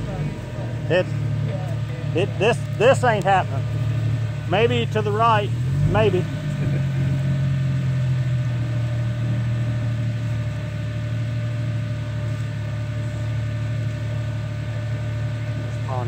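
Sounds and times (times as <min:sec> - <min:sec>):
buggy engine idling: 0:00.0 - 0:16.0.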